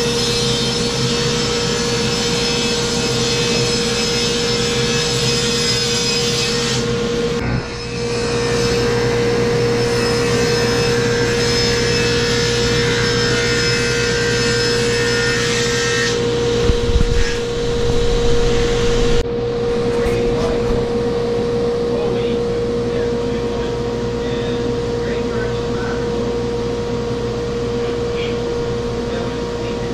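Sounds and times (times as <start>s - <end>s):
table saw motor humming: 0.0s - 29.9s.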